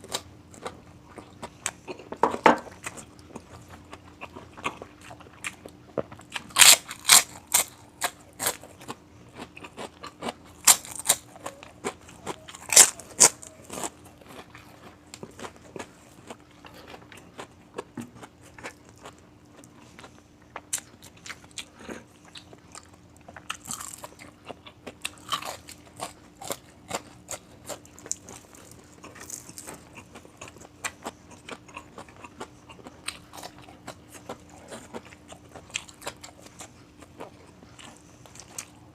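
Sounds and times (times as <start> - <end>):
crunching and chewing crispy food: 0.0 - 38.9.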